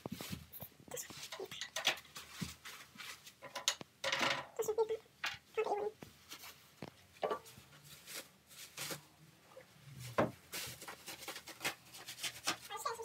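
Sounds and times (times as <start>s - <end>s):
bubble wrap rustling and crinkling: 0.0s - 3.4s, 5.6s - 13.0s.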